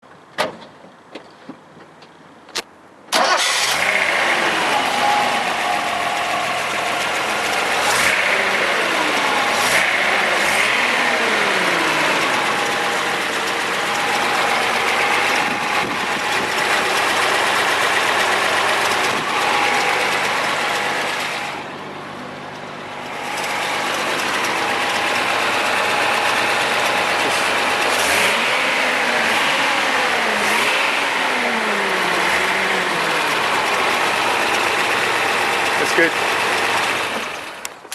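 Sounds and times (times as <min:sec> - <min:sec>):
car engine revving: 0:03.2 - 0:37.7.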